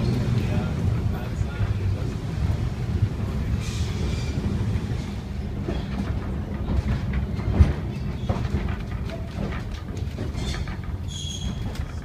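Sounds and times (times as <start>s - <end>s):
streetcar wheels rumbling on rail: 0.0s - 12.0s.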